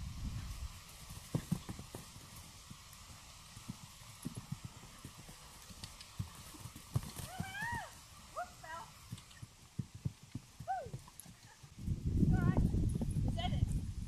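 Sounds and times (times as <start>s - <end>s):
hoofbeats on sand: 0.4s - 11.8s.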